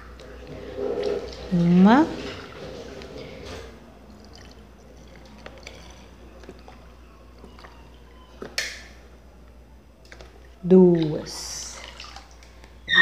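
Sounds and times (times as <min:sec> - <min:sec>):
milk pouring: 0:00.0 - 0:08.6, 0:10.1 - 0:12.9.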